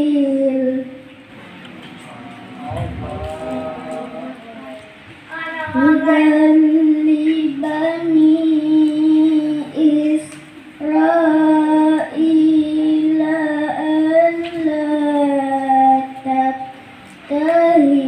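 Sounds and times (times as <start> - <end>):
boy reciting melodically: 0.0 - 18.0.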